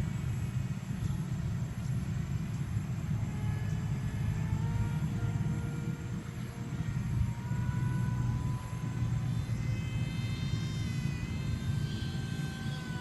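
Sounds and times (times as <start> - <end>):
model plane motor whine: 0.0 - 13.0
steady low rumble: 0.0 - 13.0.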